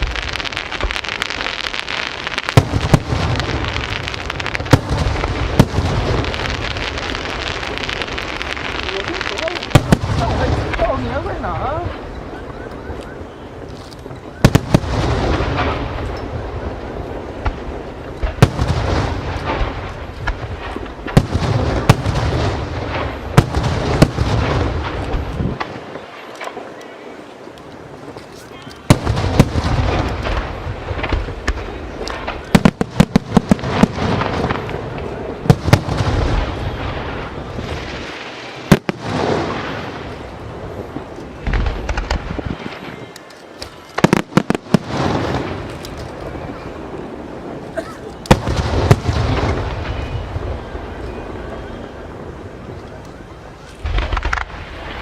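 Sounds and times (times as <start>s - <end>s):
fireworks crackling and rumbling: 0.0s - 55.0s.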